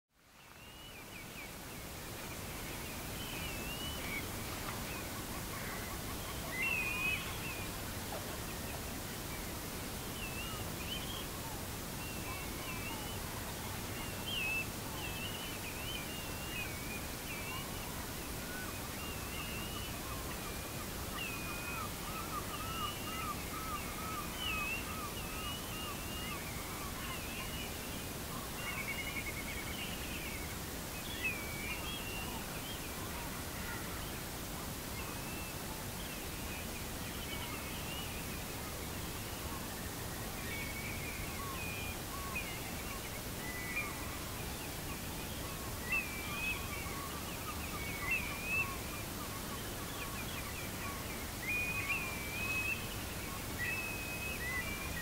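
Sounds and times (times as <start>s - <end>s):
steady background hiss: 0.2s - 55.0s.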